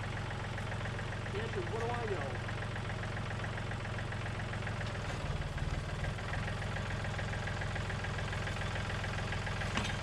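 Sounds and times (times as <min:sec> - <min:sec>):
tractor engine idling: 0:00.0 - 0:10.0.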